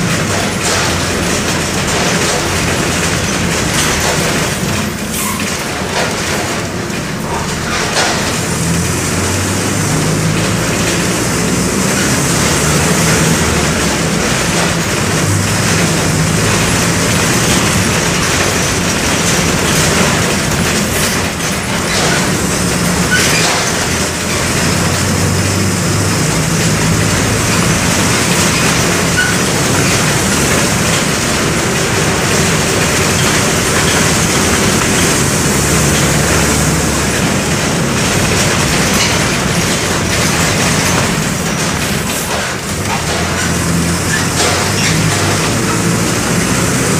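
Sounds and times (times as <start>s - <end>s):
bus diesel engine running: 0.0s - 46.9s
road noise: 0.0s - 46.9s.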